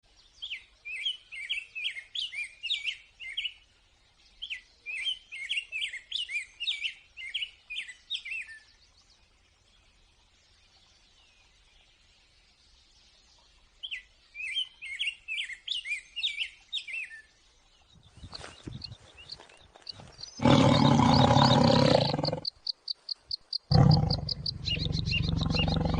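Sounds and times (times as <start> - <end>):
songbird chirping: 0.0 - 25.9.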